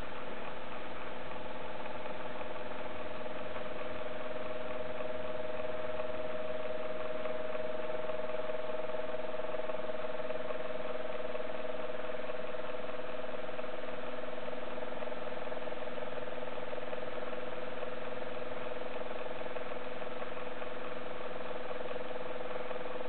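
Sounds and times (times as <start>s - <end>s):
small electric motor humming: 0.0s - 23.0s.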